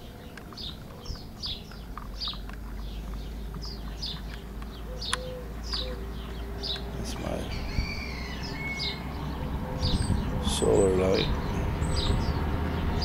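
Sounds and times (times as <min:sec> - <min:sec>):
prairie dog chirping: 0:00.0 - 0:12.5.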